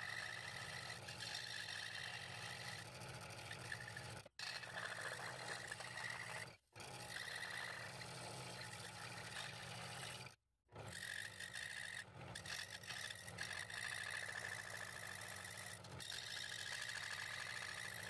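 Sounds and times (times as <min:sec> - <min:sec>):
scroll saw cutting wood: 0:00.0 - 0:18.0.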